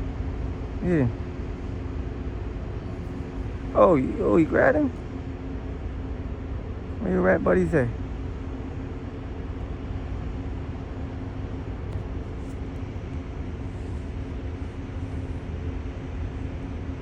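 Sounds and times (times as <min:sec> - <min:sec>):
low machine hum and rumble: 0:00.0 - 0:17.0.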